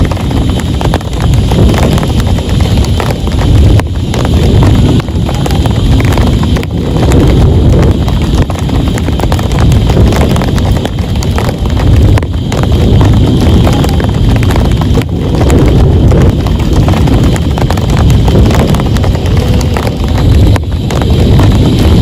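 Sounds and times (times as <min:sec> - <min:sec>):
heavy rain on a tent: 0:00.0 - 0:22.0.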